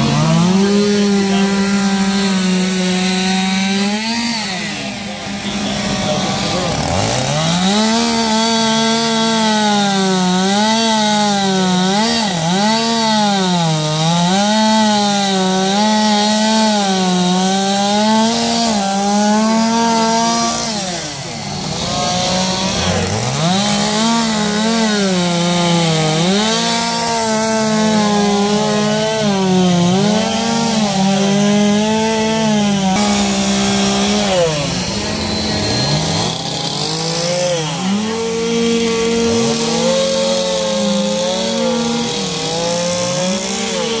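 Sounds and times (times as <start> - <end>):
chainsaws cutting wood: 0.0 - 44.0.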